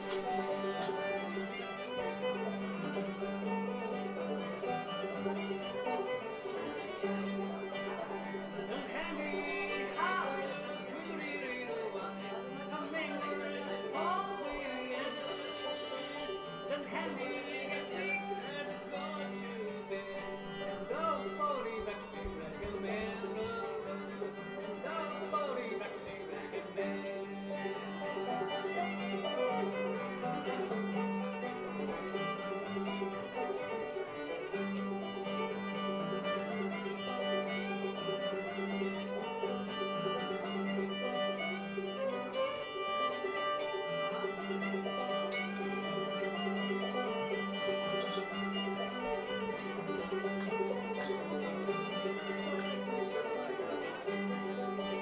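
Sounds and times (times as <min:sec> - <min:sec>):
fiddle tune: 0:00.0 - 0:55.0
string band playing: 0:00.0 - 0:55.0.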